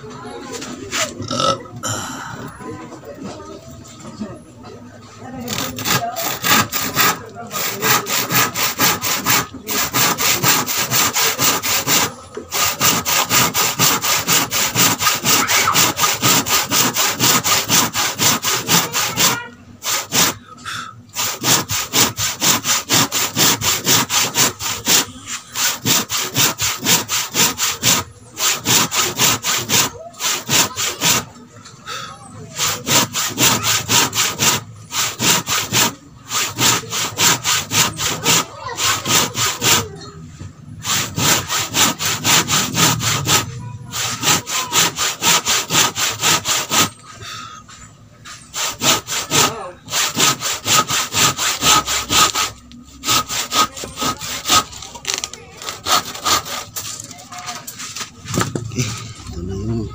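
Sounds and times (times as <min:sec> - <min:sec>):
handsaw cutting wood: 0:05.4 - 0:40.1, 0:40.7 - 0:47.2, 0:48.2 - 0:59.9.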